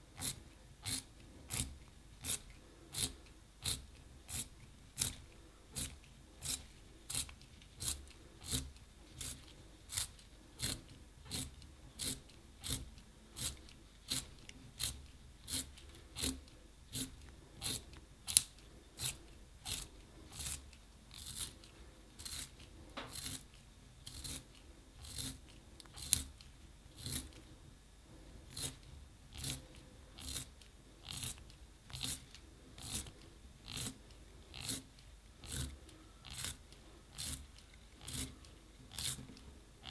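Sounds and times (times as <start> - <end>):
pencil sharpener scraping: 0.2 - 27.4, 28.5 - 39.9.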